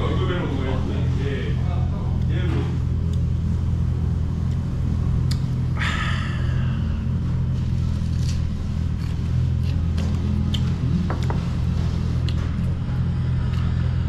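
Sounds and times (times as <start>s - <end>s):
low rumbling hum: 0.0s - 14.0s.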